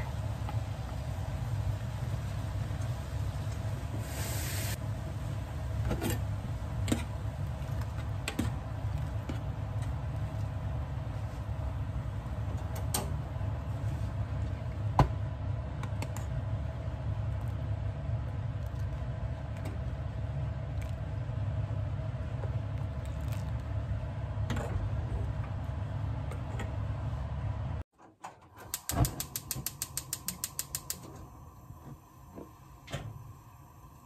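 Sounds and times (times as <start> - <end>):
steady low hum: 0.0 - 27.8.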